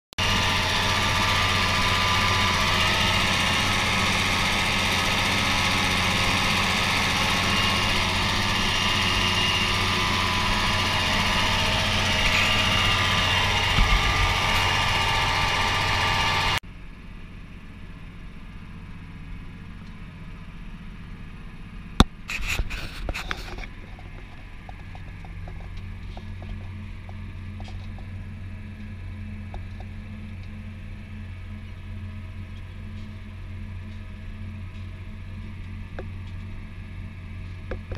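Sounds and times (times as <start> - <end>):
tractor engine running: 0.2 - 37.9.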